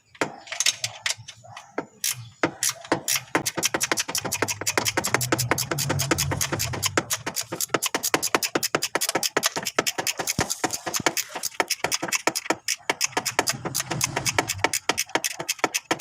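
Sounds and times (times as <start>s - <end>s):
rapid scraping strokes: 3.1s - 16.0s.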